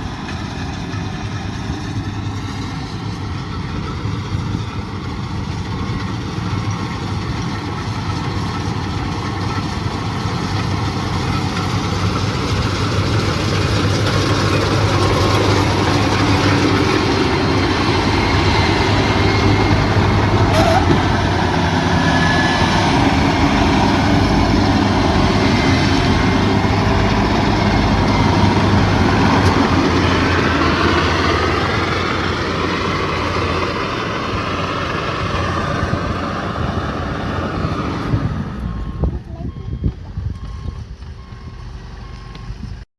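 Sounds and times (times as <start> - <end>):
combine harvester running: 0.0 - 42.8.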